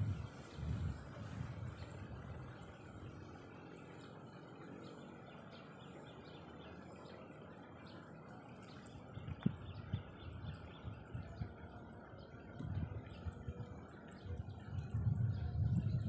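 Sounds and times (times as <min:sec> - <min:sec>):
faint outdoor hum: 0:00.0 - 0:16.0
small birds chirping: 0:00.0 - 0:16.0.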